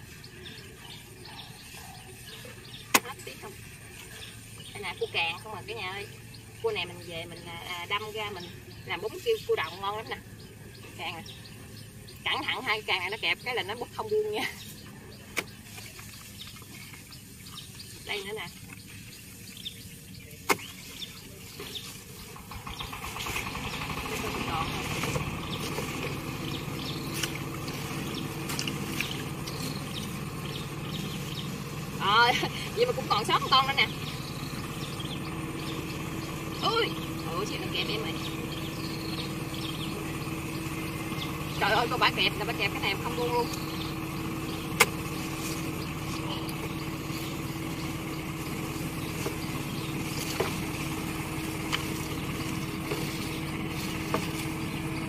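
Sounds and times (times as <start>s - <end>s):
small engine idling: 0.0s - 55.0s.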